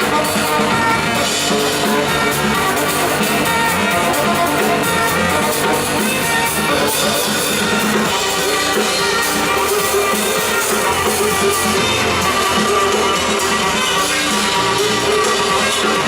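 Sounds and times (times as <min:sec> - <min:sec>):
drums beat: 0:00.0 - 0:16.0
saxophone: 0:00.0 - 0:16.0
synthesizer: 0:00.0 - 0:16.0.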